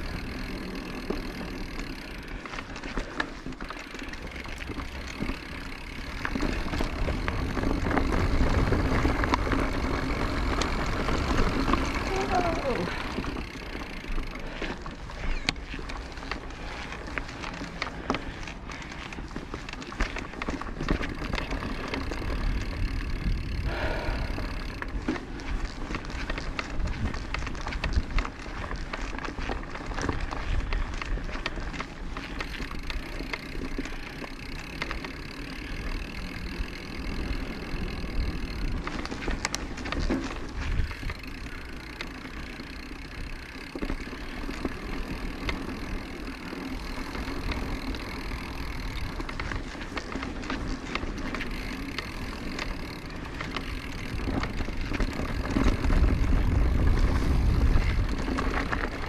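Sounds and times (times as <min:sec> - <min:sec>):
bike rattling and clicking: 0:00.0 - 0:59.0
bike tyres rolling on trail: 0:00.0 - 0:59.0.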